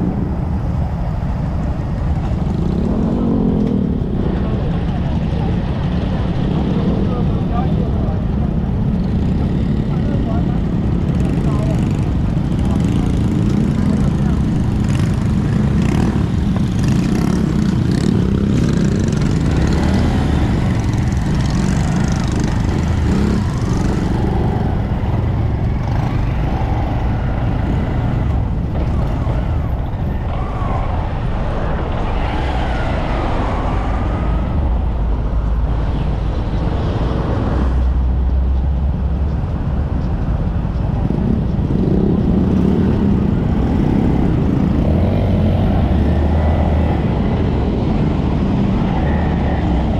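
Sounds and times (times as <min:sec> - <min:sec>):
motorcycle engine drone: 0:00.0 - 0:49.9
road and wind noise: 0:00.0 - 0:49.9.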